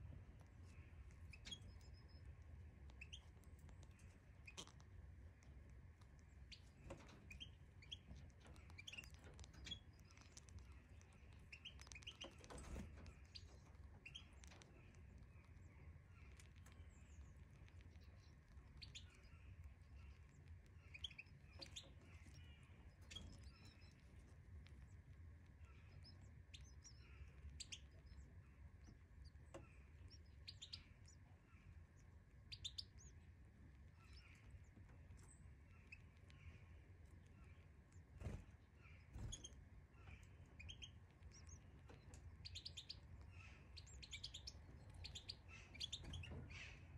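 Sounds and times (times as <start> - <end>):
low steady hum: 0.0 - 46.9
finches chirping: 0.7 - 5.4, 6.2 - 24.2, 24.9 - 46.9.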